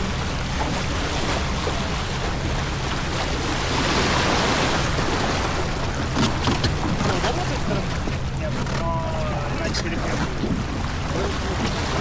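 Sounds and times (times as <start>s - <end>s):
water rushing along boat hull: 0.0s - 12.0s.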